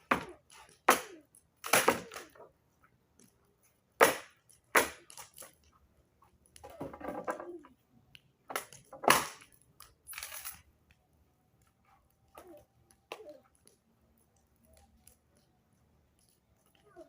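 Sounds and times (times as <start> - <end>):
sharp cracks and snaps: 0.4 - 2.5, 4.0 - 6.7, 8.0 - 17.0.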